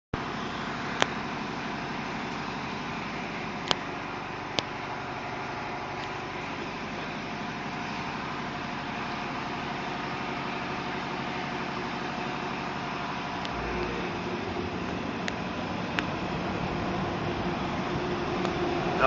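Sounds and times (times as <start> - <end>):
air compressor running: 0.2 - 19.0.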